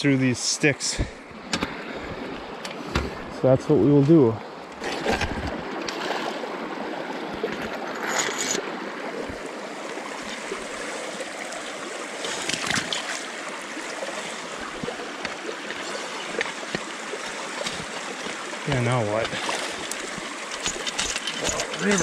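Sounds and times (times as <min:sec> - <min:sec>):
stream flowing over rocks: 0:00.4 - 0:22.0.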